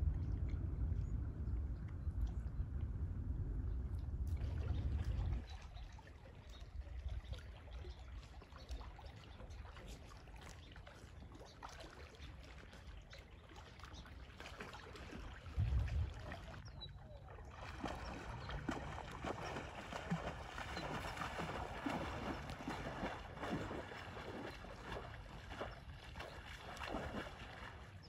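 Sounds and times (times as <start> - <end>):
wind rumble on microphone: 0.0 - 9.9, 15.0 - 28.0
river water trickling: 0.0 - 28.0.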